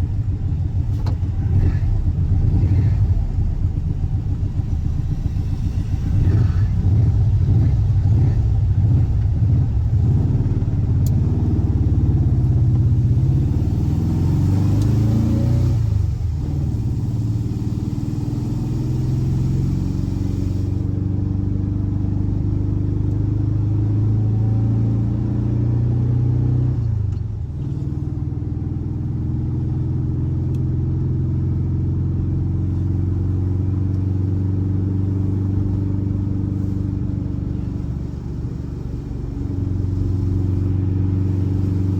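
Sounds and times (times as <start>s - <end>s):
car engine running: 0.0s - 26.0s, 27.0s - 41.9s.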